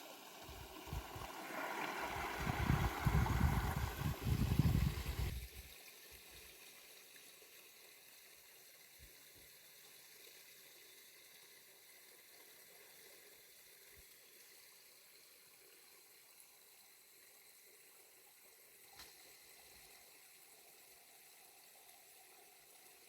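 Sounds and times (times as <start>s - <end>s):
faint running water hiss: 0.0s - 23.0s.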